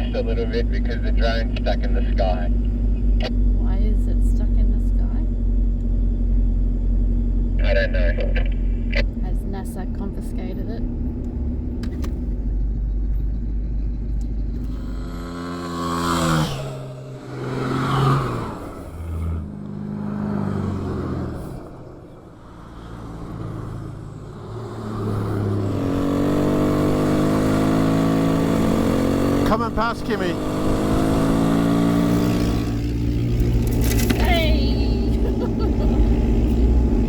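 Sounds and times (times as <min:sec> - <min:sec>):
engine building up: 0:00.0 - 0:37.0
off-road vehicle engines: 0:00.0 - 0:37.0.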